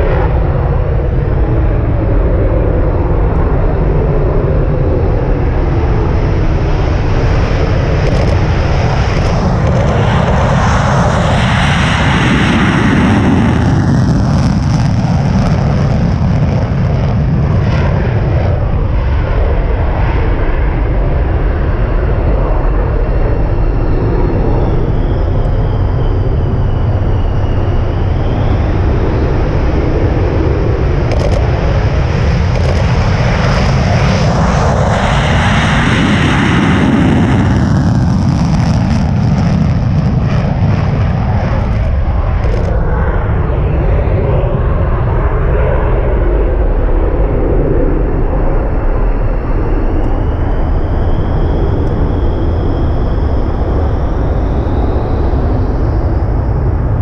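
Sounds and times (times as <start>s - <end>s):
jet engine roaring: 0.0s - 57.0s.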